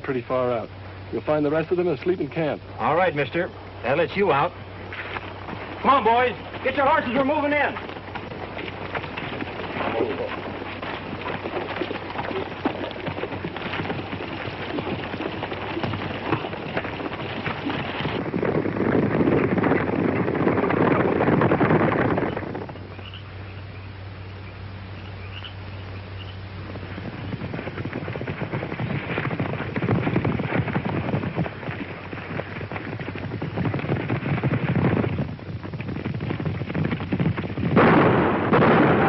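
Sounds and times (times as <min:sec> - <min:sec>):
horses galloping hoofbeats: 0:00.0 - 0:39.0.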